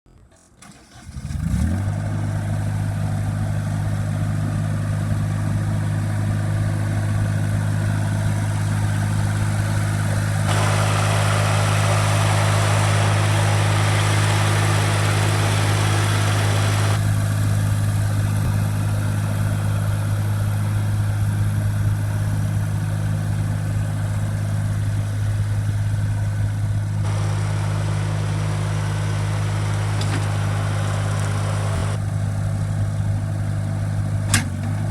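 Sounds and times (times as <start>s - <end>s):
diesel engine starting and idling: 0.1s - 34.9s.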